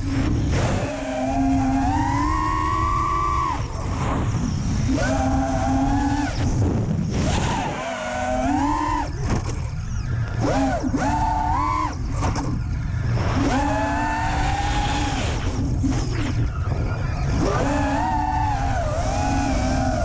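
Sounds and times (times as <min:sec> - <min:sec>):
quadcopter motors buzzing whine: 0:00.0 - 0:20.0
wind rumble on microphone: 0:00.0 - 0:20.0.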